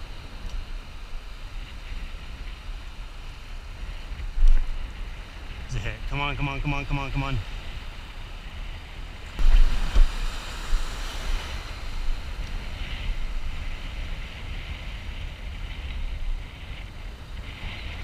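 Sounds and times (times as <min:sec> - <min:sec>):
waves breaking in surf: 0:00.0 - 0:18.0
wind buffeting microphone: 0:00.0 - 0:18.0.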